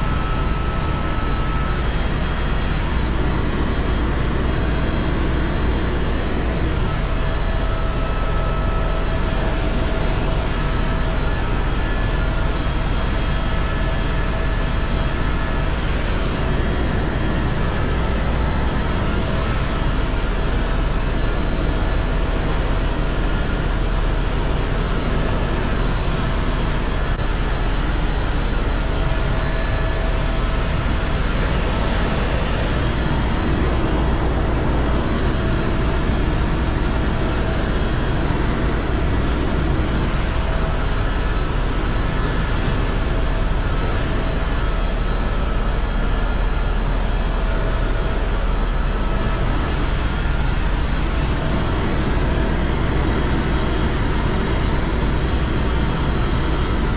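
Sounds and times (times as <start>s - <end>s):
helicopter turbine and rotors: 0.0s - 56.9s.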